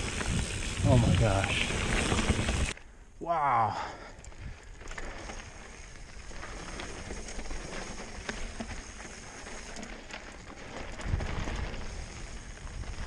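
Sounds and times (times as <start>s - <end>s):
movement over rocky trail: 0.0s - 3.1s, 3.9s - 13.0s.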